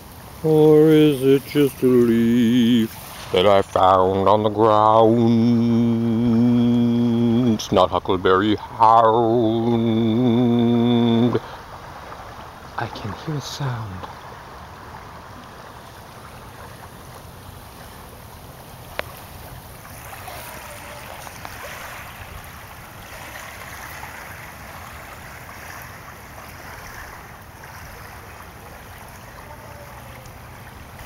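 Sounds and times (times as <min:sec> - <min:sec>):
lake water lapping: 0:00.0 - 0:31.0.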